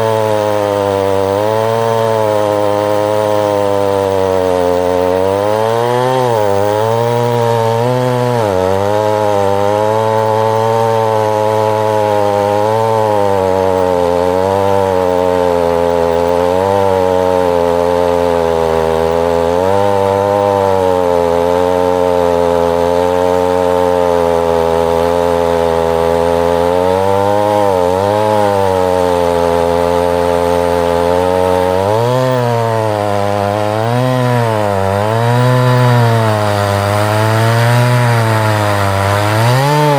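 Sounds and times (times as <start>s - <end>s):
chainsaw running under load: 0.0s - 39.9s.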